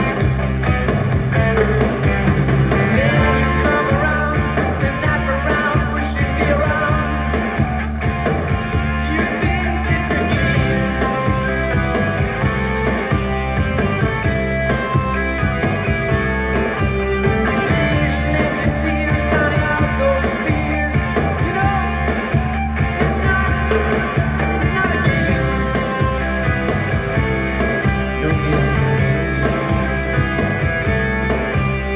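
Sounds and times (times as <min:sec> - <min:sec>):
rock and roll song with singer: 0:00.0 - 0:31.9.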